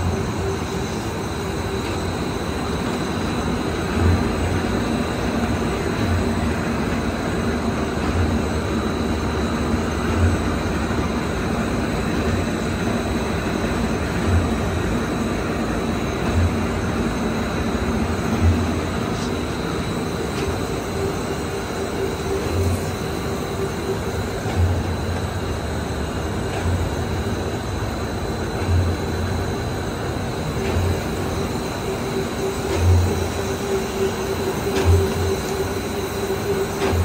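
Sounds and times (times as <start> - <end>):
machine rollers rumbling and hissing: 0.0 - 37.0.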